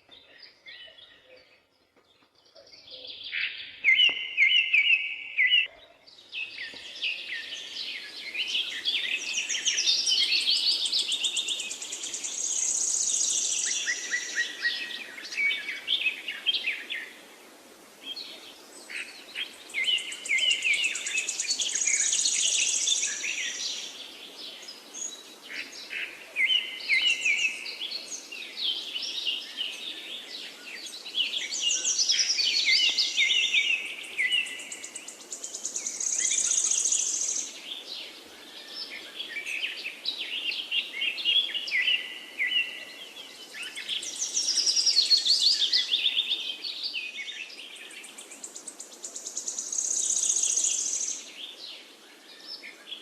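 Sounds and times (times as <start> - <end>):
songbirds singing and chirping: 0.0 - 53.0.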